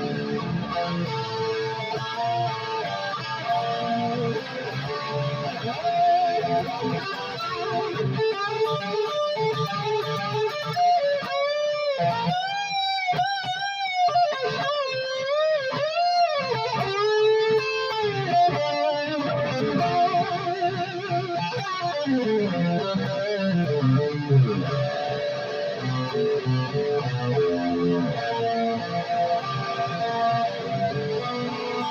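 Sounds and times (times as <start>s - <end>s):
electric guitar lead lines: 0.0s - 31.9s.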